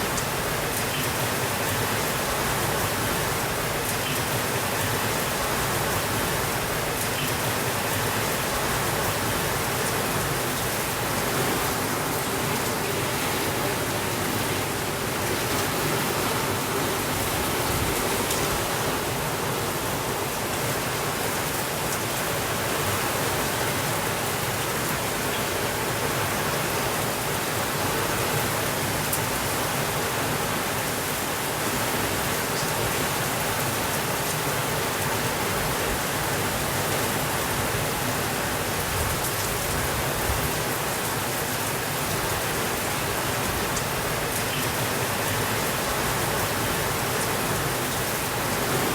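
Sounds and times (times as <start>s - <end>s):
heavy rain on a window: 0.0s - 48.9s.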